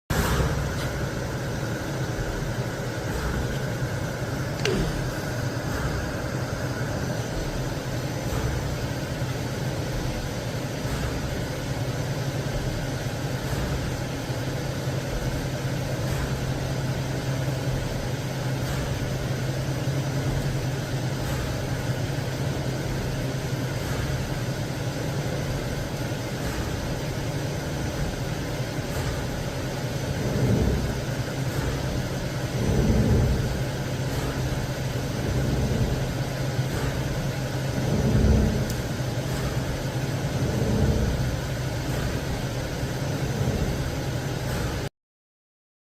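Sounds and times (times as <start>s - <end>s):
lathe machine hum: 0.1s - 44.9s.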